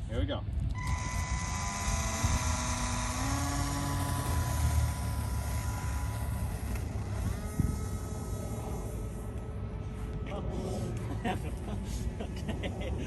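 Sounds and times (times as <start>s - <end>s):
rc airplane motor whining: 0.7s - 12.2s.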